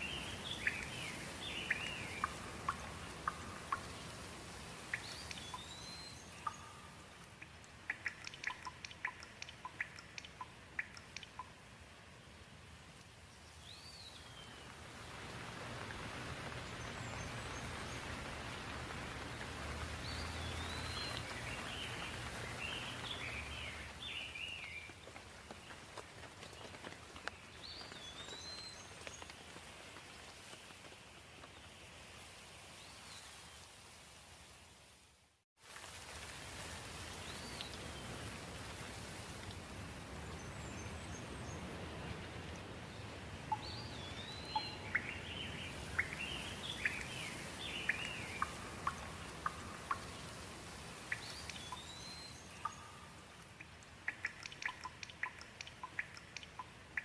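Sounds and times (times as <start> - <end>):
water dripping: 0.0 - 31.6, 35.6 - 57.0
rain hiss: 0.0 - 57.0.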